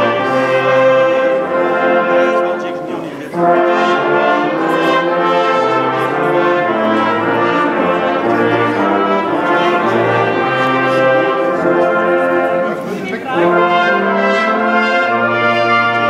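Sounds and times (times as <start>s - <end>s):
brass ensemble playing chords: 0.0s - 16.0s.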